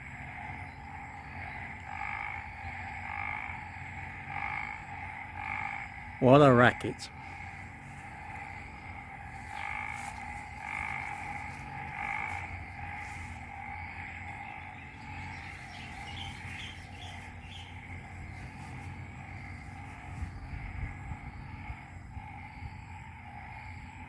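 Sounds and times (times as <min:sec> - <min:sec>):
frogs calling in chorus: 0:00.0 - 0:24.0
pulsing frog calls: 0:00.0 - 0:24.0.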